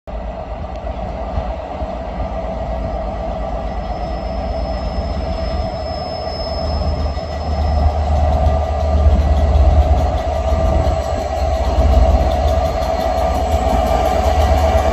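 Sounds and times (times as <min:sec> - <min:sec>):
train rail noise: 0:00.1 - 0:14.9.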